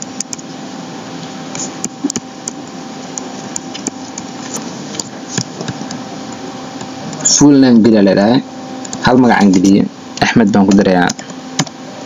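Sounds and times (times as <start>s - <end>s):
faint electrical hum: 0.0s - 12.0s
steady background hiss: 0.0s - 12.0s.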